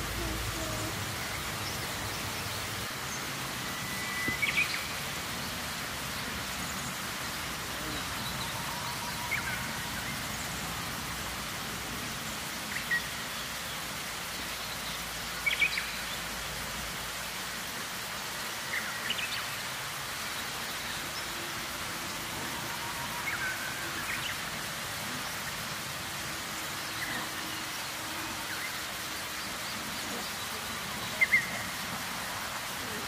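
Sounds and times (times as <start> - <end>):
outdoor hiss: 0.0 - 33.0.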